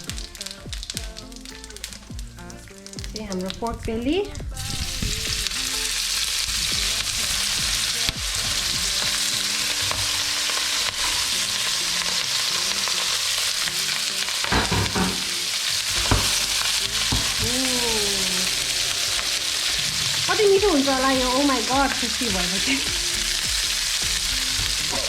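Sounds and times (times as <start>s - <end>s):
meat sizzling in a frying pan: 4.6s - 25.0s.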